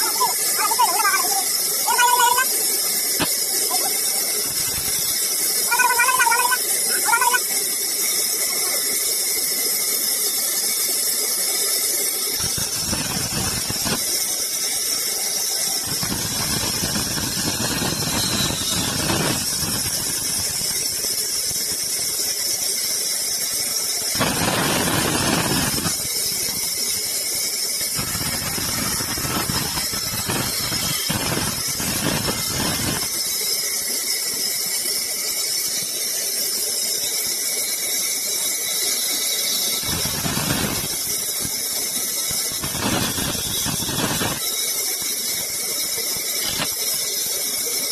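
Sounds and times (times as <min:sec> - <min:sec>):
sawmill saw hissing: 0:00.0 - 0:47.9.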